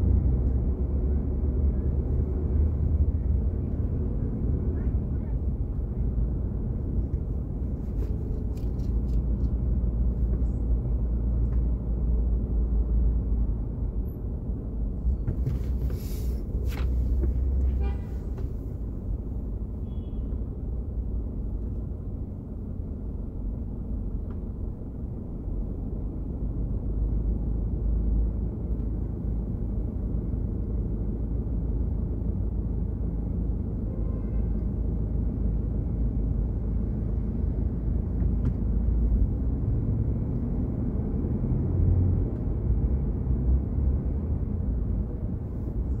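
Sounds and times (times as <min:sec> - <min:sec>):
car engine and tyre rumble: 0:00.0 - 0:46.0.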